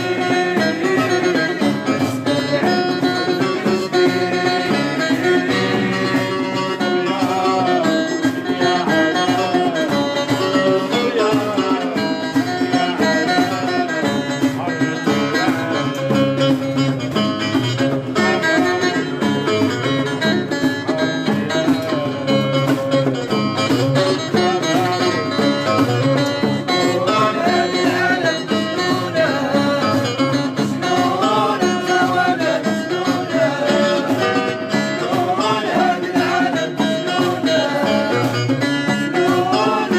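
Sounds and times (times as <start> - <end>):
plucked string instruments playing: 0.0 - 39.9.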